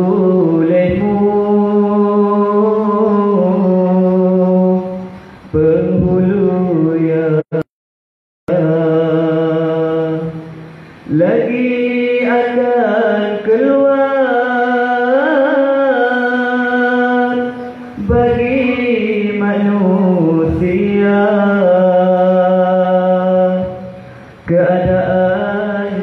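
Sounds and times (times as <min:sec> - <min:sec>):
man chanting a devotional recitation: 0:00.0 - 0:07.7, 0:08.5 - 0:26.0.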